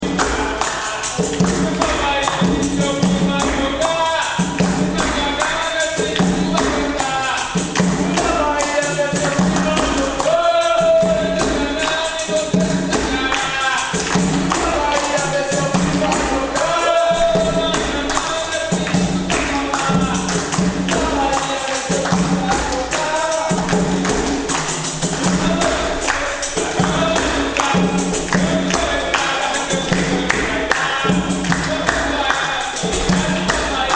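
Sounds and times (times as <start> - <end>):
steady percussion: 0.0 - 33.9
tambourine jingles: 0.0 - 33.9
voices singing: 0.0 - 33.9.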